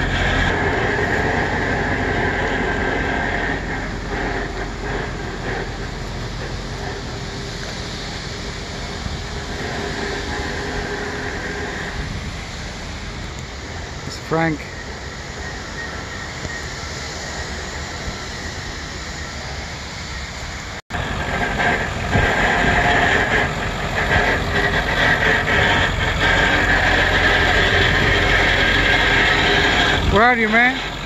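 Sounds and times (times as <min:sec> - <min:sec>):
outdoor rumble and hiss: 0:00.0 - 0:31.0
steady high whine: 0:00.0 - 0:31.0.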